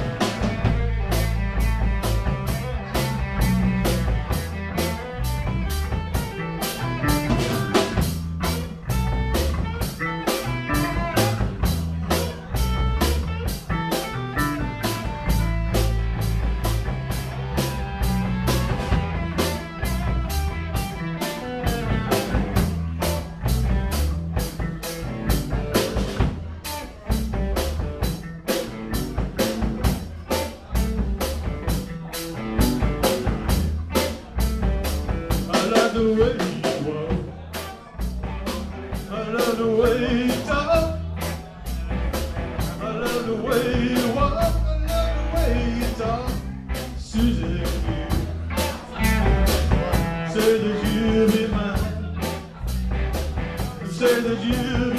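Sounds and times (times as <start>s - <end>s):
bass guitar: 0.0s - 54.9s
drum kit: 0.0s - 54.9s
electric guitar: 0.0s - 54.9s.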